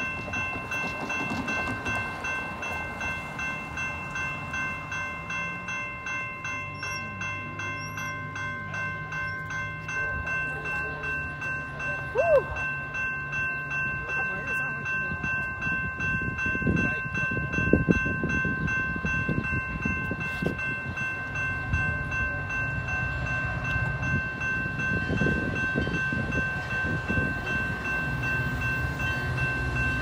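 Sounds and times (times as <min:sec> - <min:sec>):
railroad crossing bell ringing: 0:00.0 - 0:30.0.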